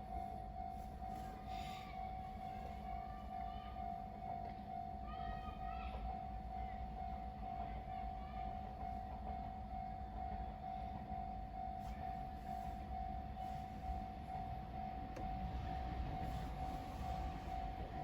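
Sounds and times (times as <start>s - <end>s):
level crossing warning bell ringing: 0.0s - 18.0s
low rumble of electric train: 0.0s - 18.0s.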